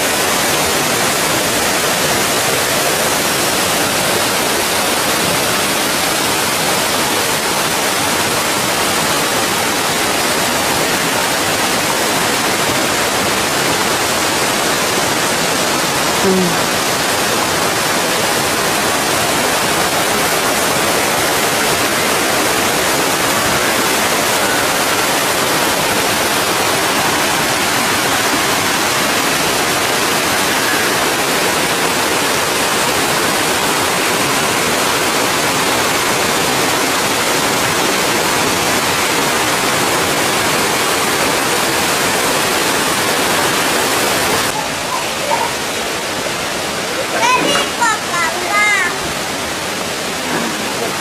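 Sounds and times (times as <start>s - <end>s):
creek water rushing over rocks: 0.0s - 51.0s.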